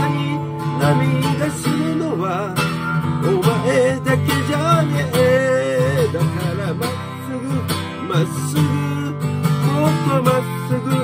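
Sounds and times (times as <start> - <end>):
man singing: 0.0 - 11.0
strummed acoustic guitar: 0.0 - 11.0.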